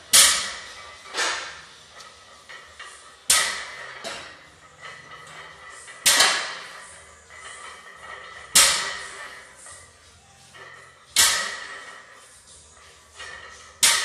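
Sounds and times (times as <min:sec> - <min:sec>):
barbell clanking on floor: 0:00.1 - 0:09.4, 0:10.6 - 0:12.2, 0:13.0 - 0:14.0.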